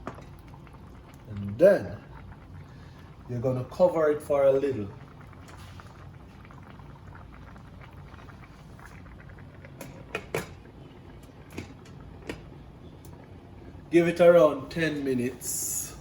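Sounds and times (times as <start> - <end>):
pot bubbling: 0.0 - 16.0.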